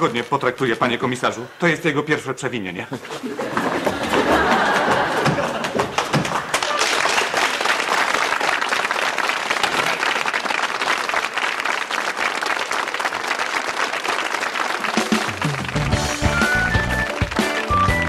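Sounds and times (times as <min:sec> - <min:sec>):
audience applauding: 0:03.4 - 0:18.0.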